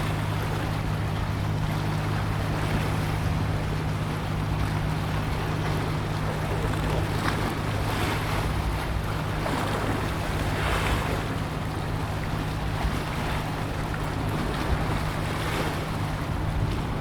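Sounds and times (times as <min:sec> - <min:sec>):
low engine drone: 0:00.0 - 0:17.0
wind buffeting microphone: 0:00.0 - 0:17.0.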